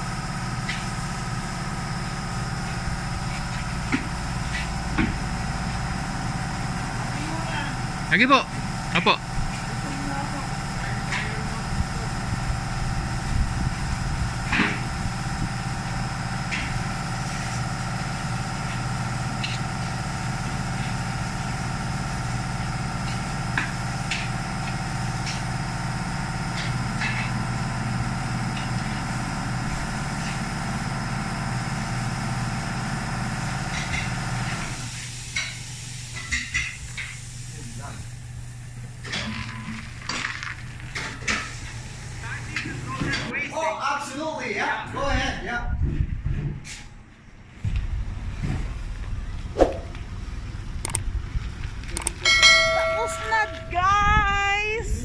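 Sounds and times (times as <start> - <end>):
machine hum: 0.0 - 36.0, 44.8 - 55.0.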